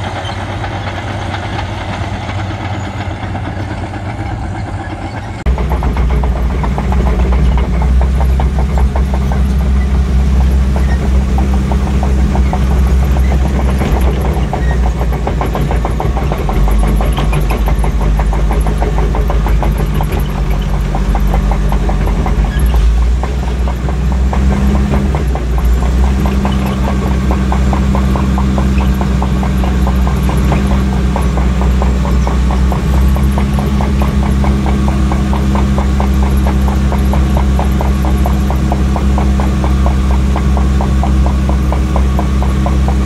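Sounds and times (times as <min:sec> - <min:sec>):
diesel engine under load: 0:00.0 - 0:43.0
tracks clattering: 0:00.0 - 0:43.0.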